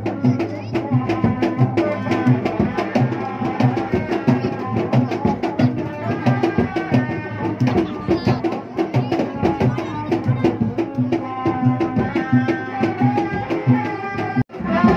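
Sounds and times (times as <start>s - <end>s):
drums beating fast rhythm: 0.0s - 14.9s.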